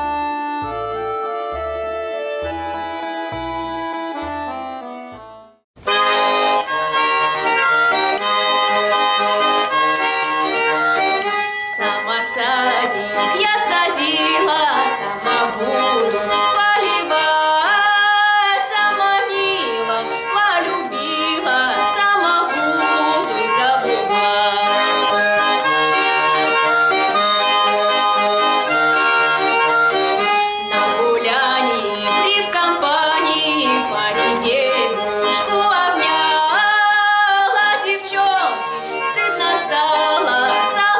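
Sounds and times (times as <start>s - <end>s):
accordion chords: 0.0s - 40.9s.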